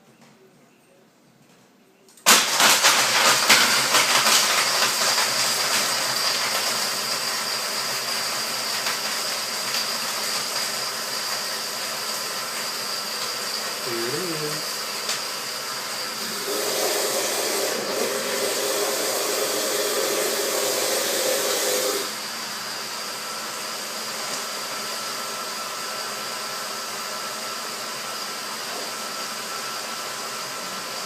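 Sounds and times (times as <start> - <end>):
blender blending ice: 2.3 - 31.0.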